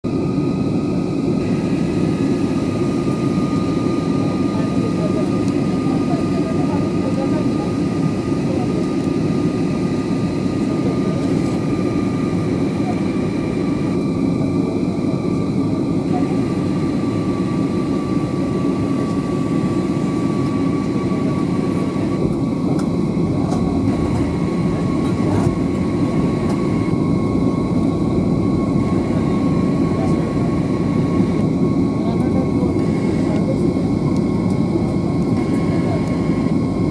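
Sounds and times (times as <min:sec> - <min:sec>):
jet engine and airflow rumble: 0:00.0 - 0:36.9.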